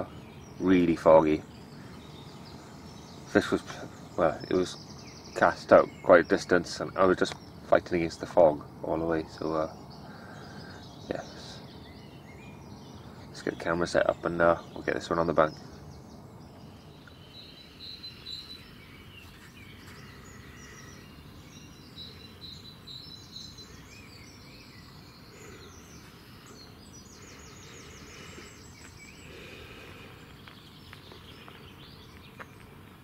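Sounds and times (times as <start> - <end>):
low steady background rumble: 0.0 - 33.0
songbirds whistling and trilling: 0.0 - 33.0.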